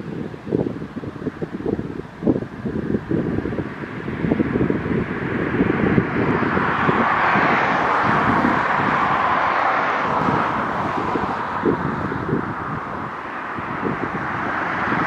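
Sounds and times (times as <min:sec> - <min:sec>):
vehicle tyre noise passing: 0:00.0 - 0:15.0
wind buffeting microphone: 0:00.0 - 0:15.0.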